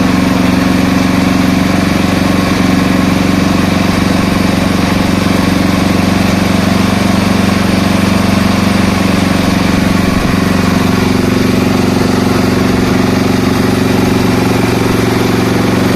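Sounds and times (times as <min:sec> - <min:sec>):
motor humming: 0:00.0 - 0:15.9.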